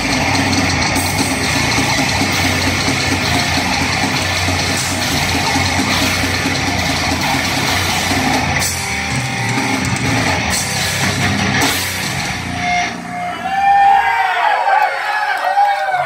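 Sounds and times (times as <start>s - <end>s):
heavy metal band playing live: 0.0s - 14.2s.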